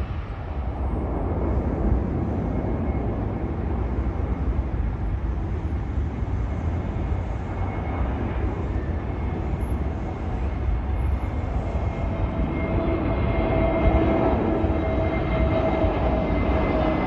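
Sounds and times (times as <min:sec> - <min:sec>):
faint engine whine: 0:00.0 - 0:17.0
jet engines deep rumble: 0:00.0 - 0:17.0.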